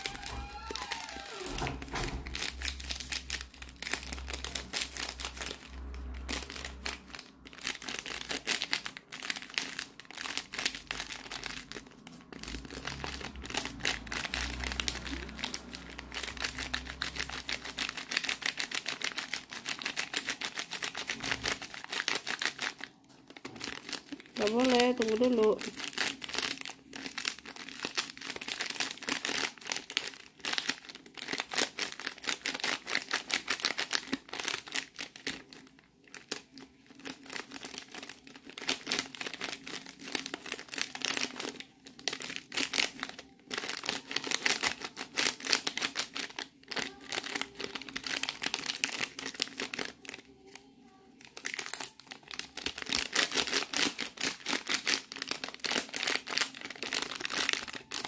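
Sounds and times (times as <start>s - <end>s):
foil sachet crinkling: 0.0s - 58.0s.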